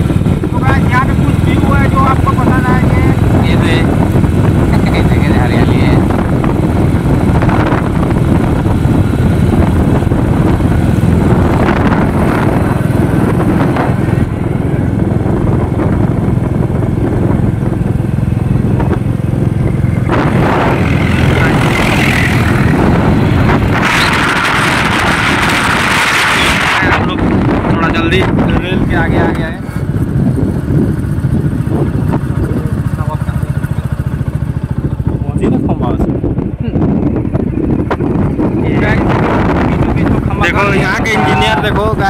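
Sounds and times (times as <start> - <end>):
motorcycle engine running: 0.0 - 42.0
wind rush on microphone: 0.0 - 42.0.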